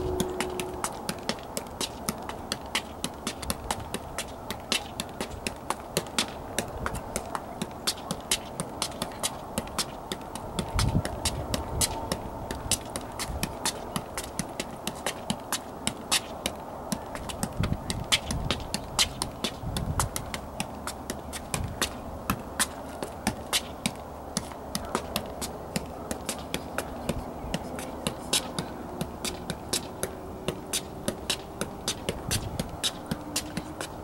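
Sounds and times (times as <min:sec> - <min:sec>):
soccer ball tapping off a shoe: 0:00.0 - 0:34.0.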